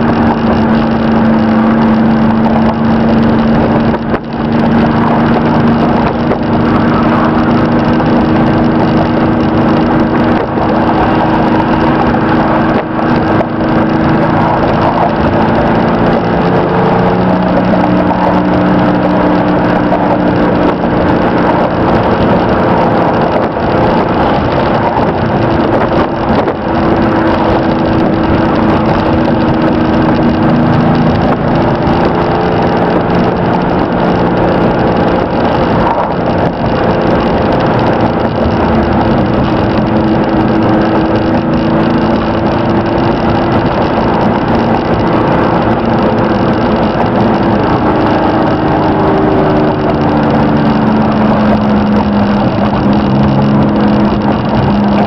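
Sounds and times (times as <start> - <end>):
pickup engine running: 0.0 - 55.0
road noise: 0.0 - 55.0.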